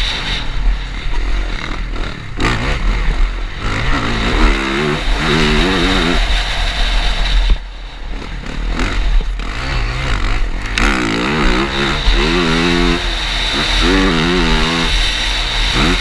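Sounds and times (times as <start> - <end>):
motocross bike engine revving: 0.0 - 16.0
rush of wind and dirt: 0.0 - 16.0.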